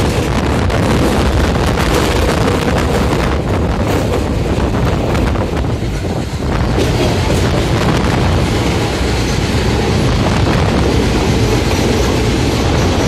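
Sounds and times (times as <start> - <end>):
train rumbling and rattling on track: 0.0 - 13.0
wind buffeting microphone: 0.0 - 13.0.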